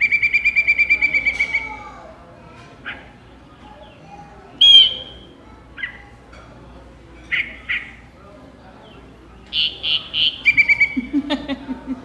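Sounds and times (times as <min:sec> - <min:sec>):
recorded birdsong whistles and chucks: 0:00.0 - 0:11.4.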